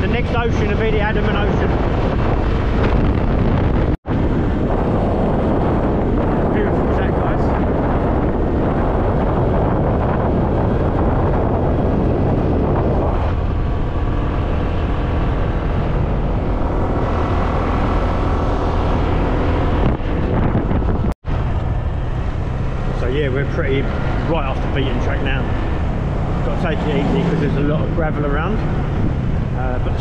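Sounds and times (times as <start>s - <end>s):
wind rush on microphone: 0.0s - 30.0s.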